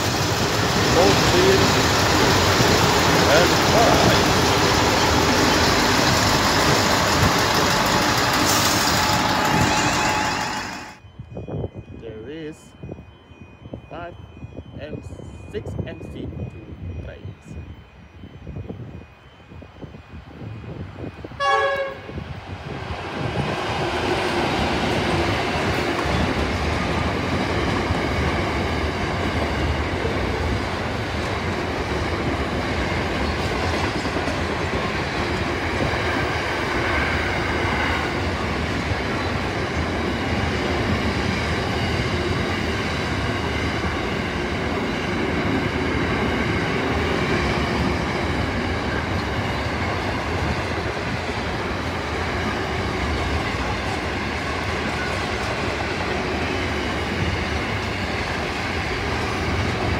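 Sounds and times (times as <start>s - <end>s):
freight wagons rumbling on track: 0.0s - 13.0s, 21.5s - 59.9s.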